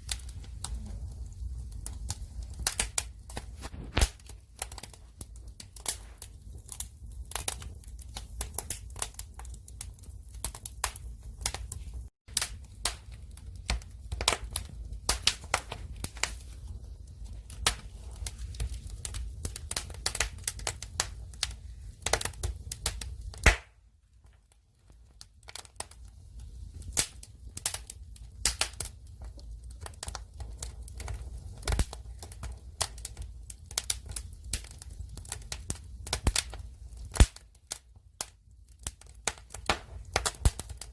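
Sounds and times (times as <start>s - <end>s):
fire crackling and popping: 0.0s - 40.9s
fire low rumble: 0.0s - 40.9s.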